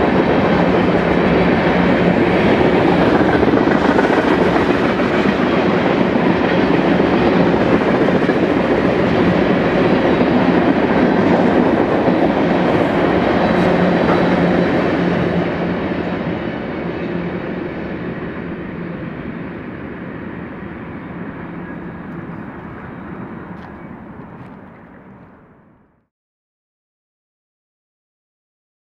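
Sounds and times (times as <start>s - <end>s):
train wheels rolling on rail: 0.0s - 25.8s.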